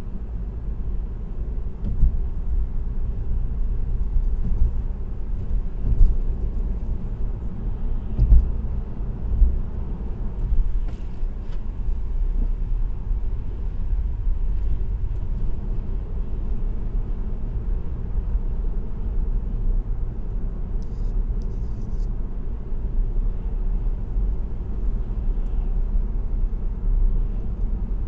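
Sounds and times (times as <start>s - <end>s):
tyre and road rumble: 0.0s - 28.0s.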